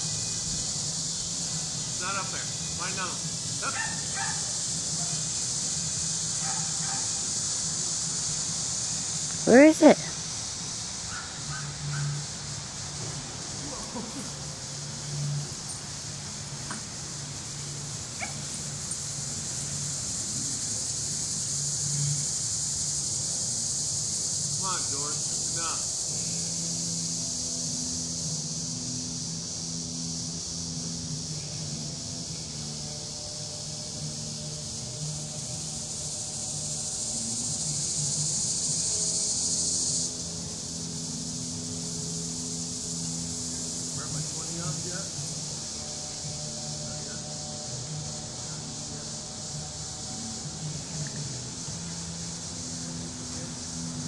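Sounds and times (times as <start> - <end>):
high-pitched insect drone: 0.0 - 54.0
loud high buzz: 0.0 - 54.0.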